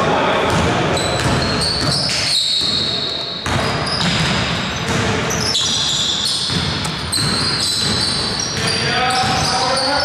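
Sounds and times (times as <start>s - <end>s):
players' voices echoing: 0.0s - 10.0s
shoes squeaking on floor: 0.9s - 10.0s
basketball dribbling on hardwood: 1.2s - 9.7s.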